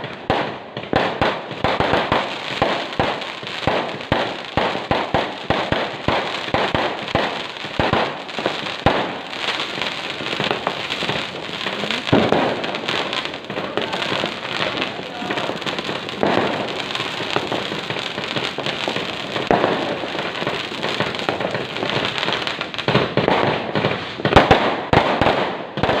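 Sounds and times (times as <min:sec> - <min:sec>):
fireworks crackling and banging: 0:00.0 - 0:26.0.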